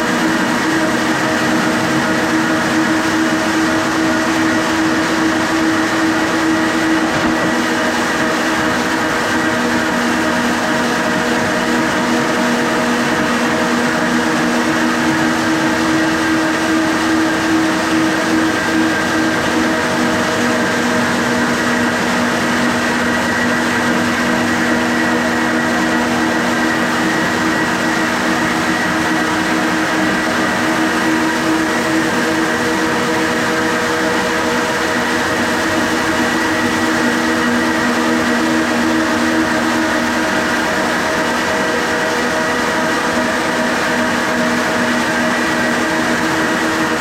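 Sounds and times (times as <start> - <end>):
floor sander grinding: 0.0 - 47.0.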